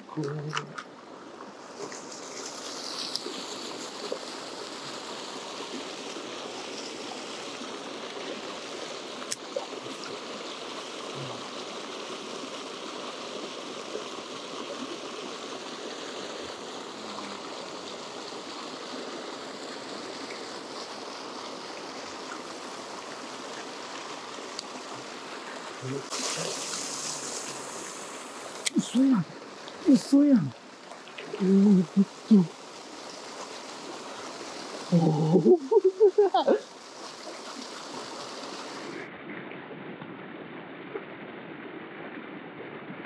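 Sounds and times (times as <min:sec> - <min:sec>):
water pouring into canal: 0:00.0 - 0:39.2.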